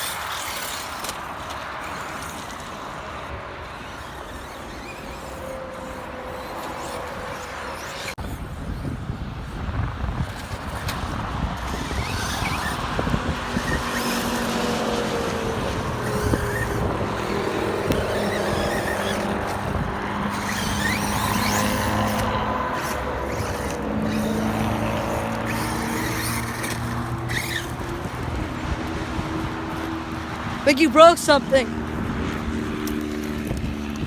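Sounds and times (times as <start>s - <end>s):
electric motors whining: 0.0s - 34.0s
tyre and ground noise: 0.0s - 34.0s.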